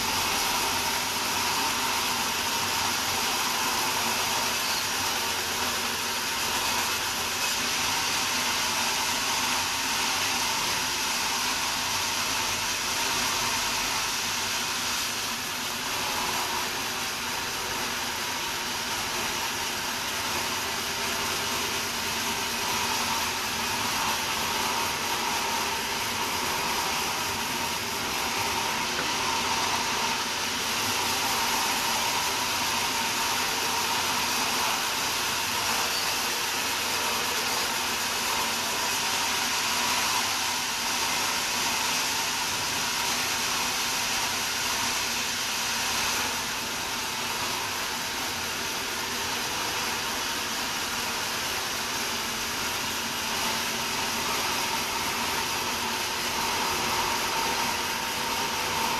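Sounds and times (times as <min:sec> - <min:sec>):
sawmill saw cutting log: 0:00.0 - 0:58.9.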